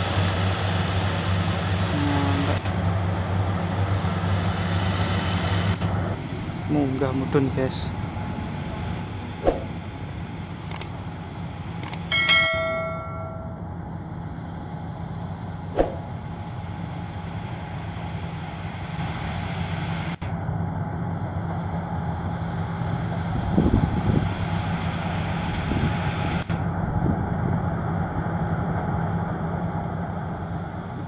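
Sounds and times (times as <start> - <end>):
combine harvester engine running: 0.0 - 31.0.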